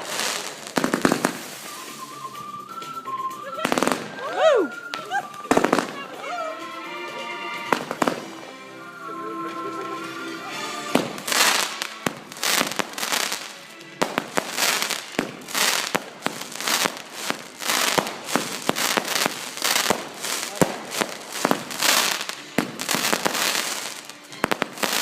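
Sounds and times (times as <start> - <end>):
fireworks bangs and crackling: 0.0 - 8.6, 9.8 - 25.0
music with held notes: 0.0 - 25.0.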